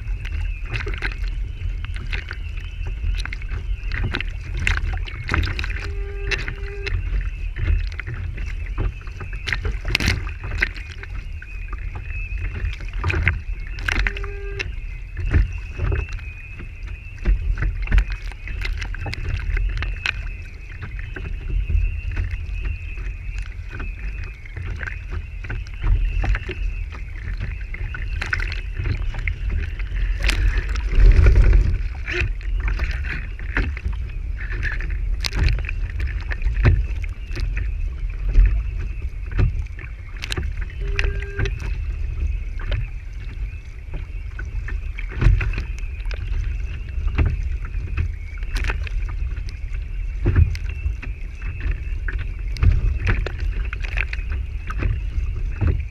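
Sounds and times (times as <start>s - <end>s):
water rushing along a hull: 0.0s - 55.9s.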